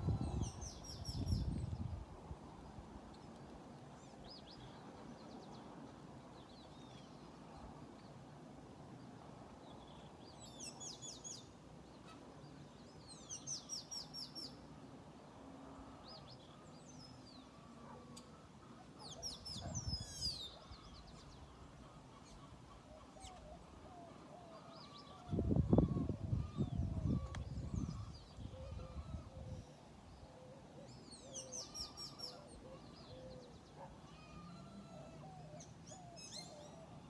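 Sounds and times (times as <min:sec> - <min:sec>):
songbirds singing: 0:00.0 - 0:08.3, 0:09.0 - 0:37.0
quiet outdoor background: 0:00.0 - 0:37.0.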